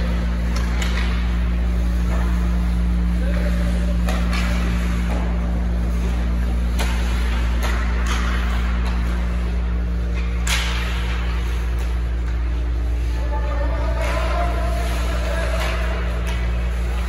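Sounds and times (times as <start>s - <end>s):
hockey sticks cracking puck: 0.0s - 17.0s
steady low hum: 0.0s - 17.0s.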